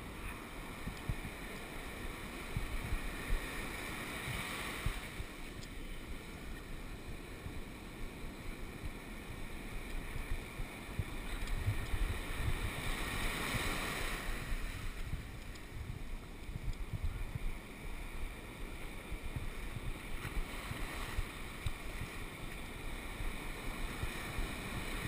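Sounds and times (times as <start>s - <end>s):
ocean surf washing up: 0.0s - 25.0s
wind buffeting microphone: 0.0s - 25.0s.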